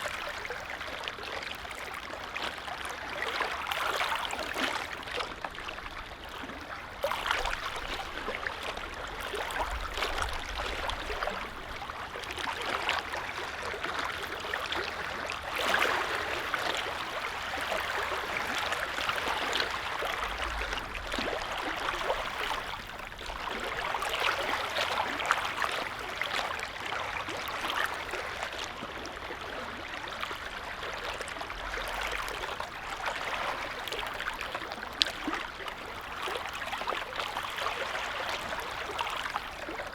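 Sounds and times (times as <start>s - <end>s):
lake waves lapping: 0.0s - 39.9s.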